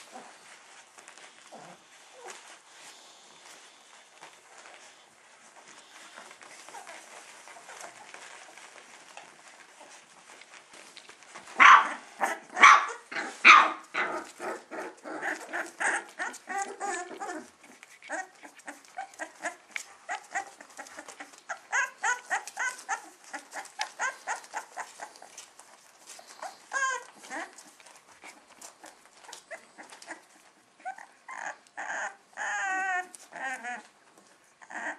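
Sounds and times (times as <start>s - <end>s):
puppies yelping and whining: 0.0s - 34.9s.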